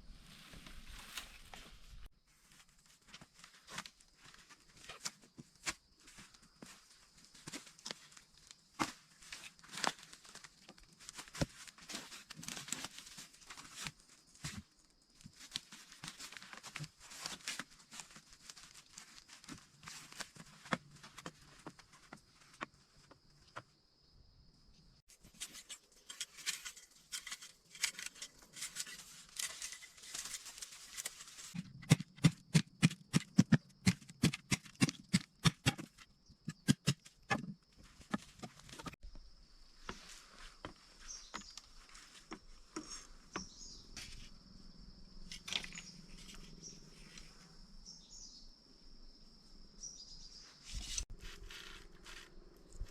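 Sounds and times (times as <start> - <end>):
rustling and scraping bamboo: 0.1 - 23.6, 25.1 - 39.0, 39.7 - 44.5, 45.2 - 47.5, 50.6 - 52.9.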